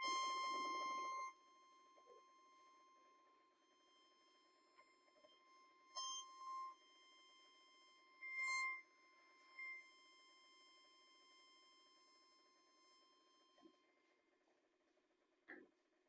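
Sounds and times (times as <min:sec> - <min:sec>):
faint steady high tone: 0:00.0 - 0:15.7.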